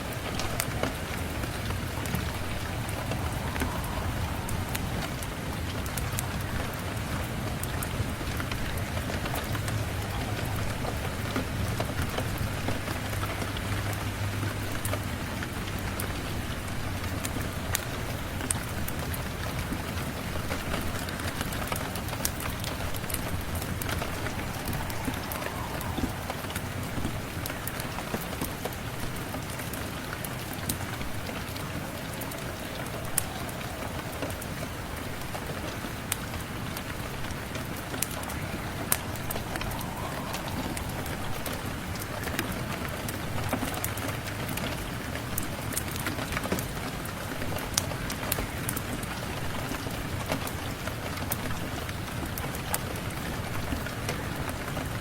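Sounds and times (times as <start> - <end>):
steady rain: 0.0 - 55.0
wood fire popping and crackling: 0.0 - 55.0.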